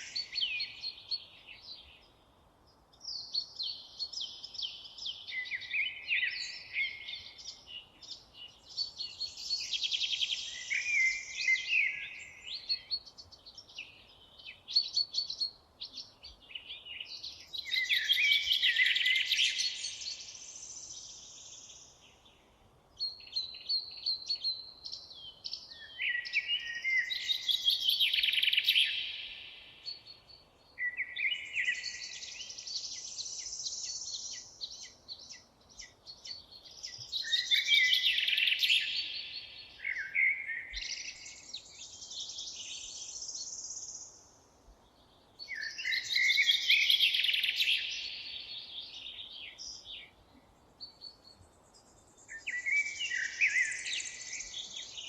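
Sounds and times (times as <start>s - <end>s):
faint background hiss: 0.0s - 55.0s
songbirds chirping: 0.0s - 55.0s.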